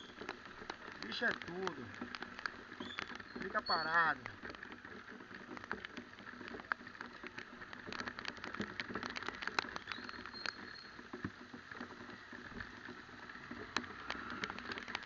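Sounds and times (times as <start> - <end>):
raindrops pattering: 0.0 - 15.0.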